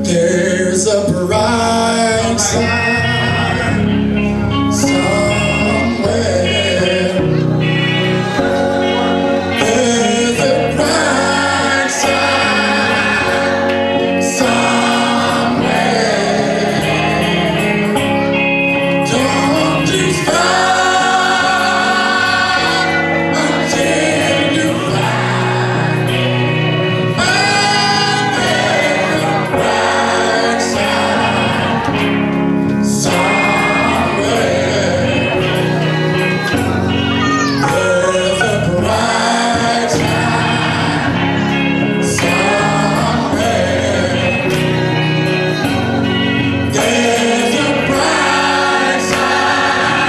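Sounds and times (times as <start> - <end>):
man singing into microphone: 0.0 - 32.0, 32.6 - 50.0
choir singing: 0.0 - 50.0
electric guitar: 0.0 - 50.0.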